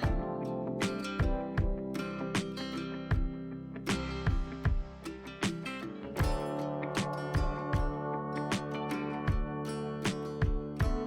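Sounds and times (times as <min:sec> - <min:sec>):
acoustic guitar strumming: 0:00.0 - 0:11.0
steady beat: 0:00.0 - 0:11.0.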